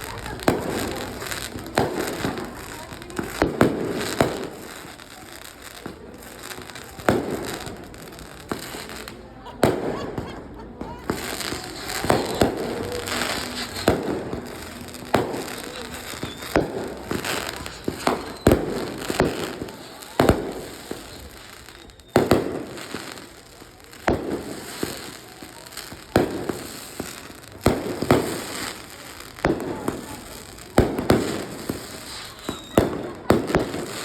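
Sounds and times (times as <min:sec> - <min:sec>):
fireworks bangs: 0:00.0 - 0:34.0
fireworks hissing: 0:00.0 - 0:34.0.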